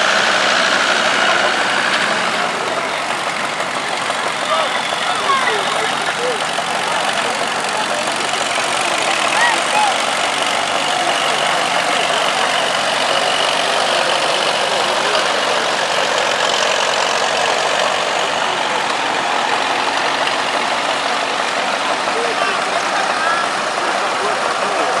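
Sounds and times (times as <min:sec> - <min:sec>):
tractor engines running: 0:00.0 - 0:25.0.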